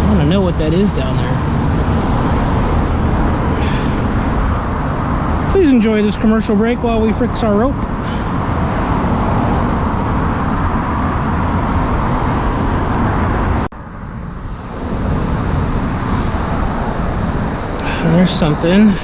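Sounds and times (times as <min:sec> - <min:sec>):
outdoor background roar: 0:00.0 - 0:19.0.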